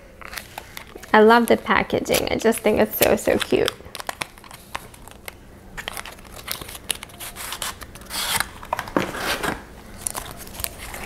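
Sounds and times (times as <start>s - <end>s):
packaging rustling and scraping: 0.2s - 11.0s.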